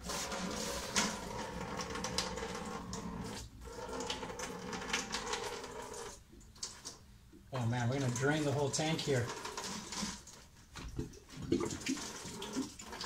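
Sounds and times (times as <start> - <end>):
fluid gushing into plastic bucket: 0.0 - 13.0.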